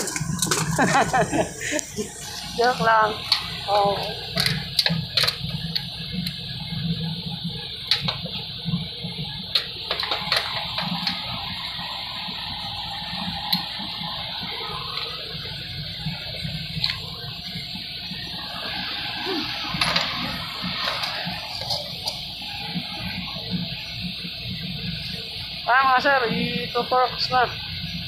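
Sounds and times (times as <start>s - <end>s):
steady rushing background noise: 0.0s - 28.0s.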